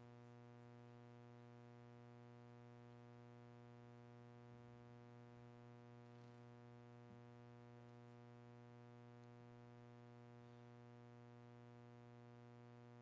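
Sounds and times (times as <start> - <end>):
faint low hum: 0.1 - 13.0.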